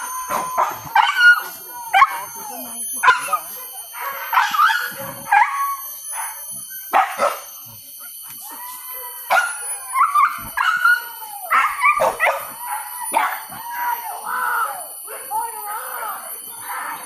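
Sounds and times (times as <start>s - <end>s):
dogs barking yelping and howling: 0.0s - 17.0s.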